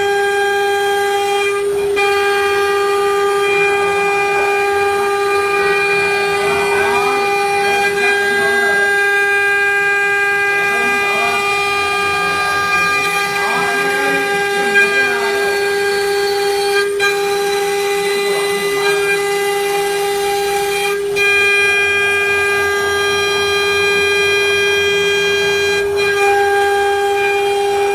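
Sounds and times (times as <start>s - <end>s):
engraving machine spindle whine: 0.0s - 27.9s.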